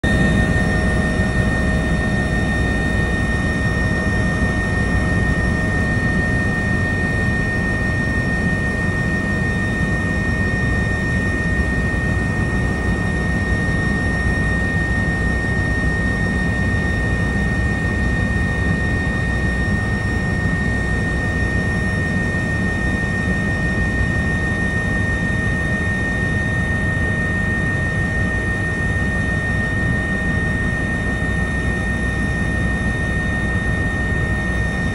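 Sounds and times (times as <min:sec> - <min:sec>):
helicopter rotor and engine rumble: 0:00.0 - 0:34.9
high-pitched turbine whine: 0:00.0 - 0:34.9.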